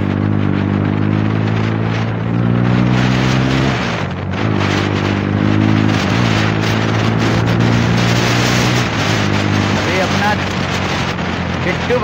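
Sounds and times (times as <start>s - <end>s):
motorcycle engine running: 0.0s - 12.0s
wind noise: 0.0s - 12.0s.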